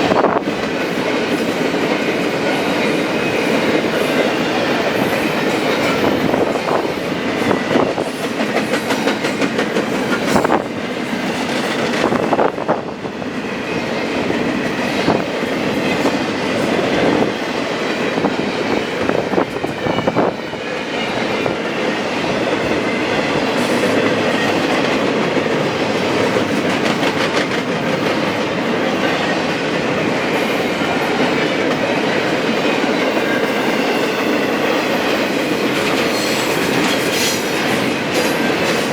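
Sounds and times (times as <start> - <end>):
train wheels clicking over rail joints: 0.0 - 12.8, 13.5 - 38.9
train cars rumbling: 0.0 - 38.9.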